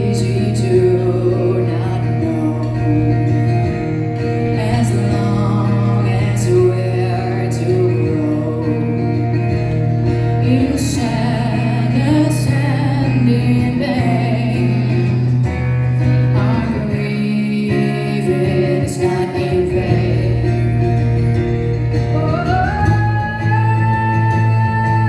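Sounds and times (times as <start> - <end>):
woman singing with vibrato: 0.0 - 21.1, 22.0 - 25.0
acoustic guitar: 0.0 - 25.0.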